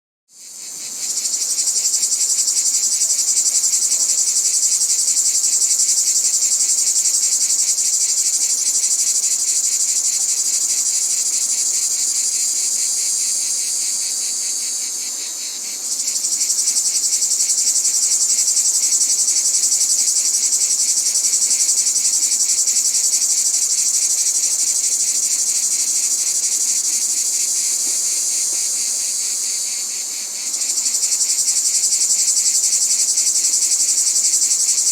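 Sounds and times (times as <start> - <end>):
cicadas buzzing: 0.4 - 34.9.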